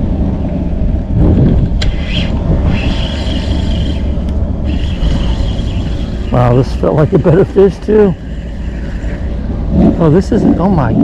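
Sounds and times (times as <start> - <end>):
wind buffeting microphone: 0.0 - 11.0
thin high whine: 1.0 - 11.0.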